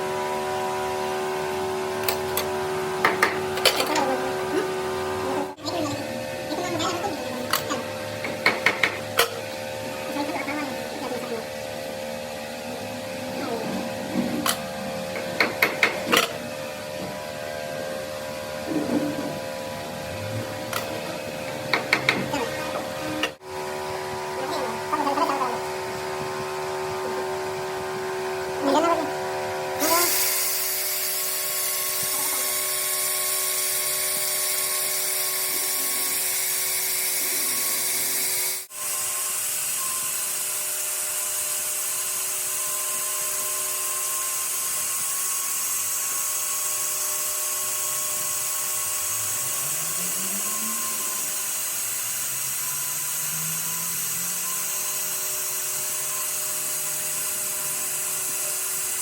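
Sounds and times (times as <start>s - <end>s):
power tool whining: 0.0s - 59.0s.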